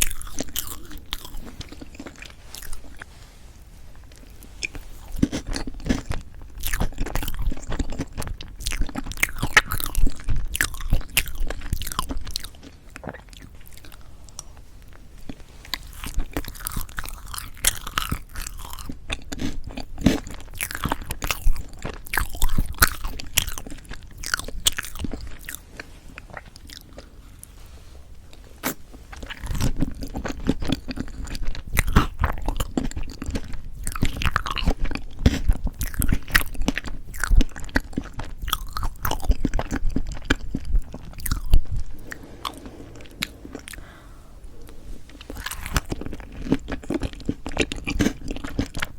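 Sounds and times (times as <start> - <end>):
mouth chewing cake: 0.0 - 3.2, 3.9 - 48.9.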